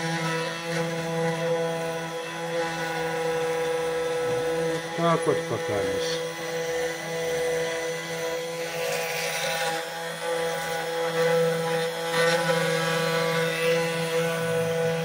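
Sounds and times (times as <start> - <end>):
cutter milling plastic: 0.0 - 15.0
router spindle whine: 0.0 - 15.0.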